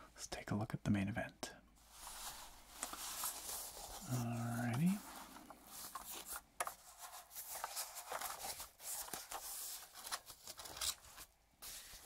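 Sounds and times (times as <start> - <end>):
packaging rustling and crinkling: 1.8 - 12.0.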